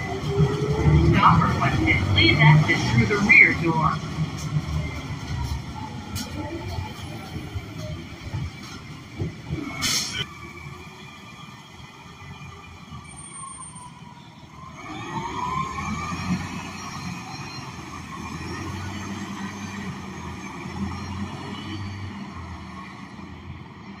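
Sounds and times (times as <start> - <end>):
bus engine pulling away: 0.0 - 24.0.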